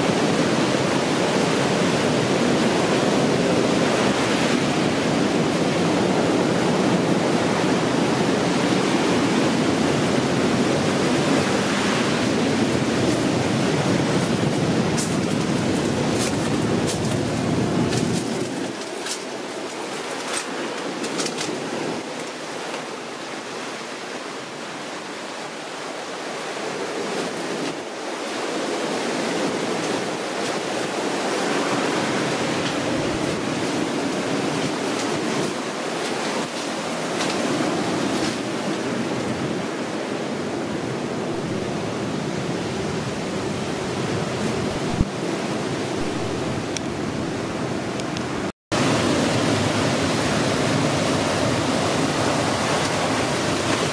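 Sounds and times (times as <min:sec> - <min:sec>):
ocean waves washing ashore: 0:00.0 - 0:53.9.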